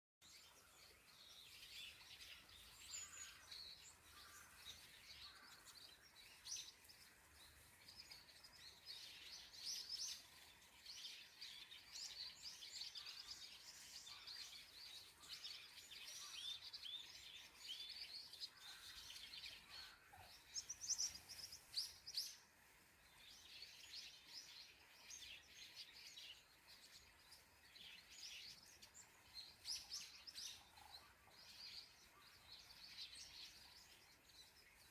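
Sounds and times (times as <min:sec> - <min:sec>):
songbirds chirping and singing: 0:00.2 - 0:34.9.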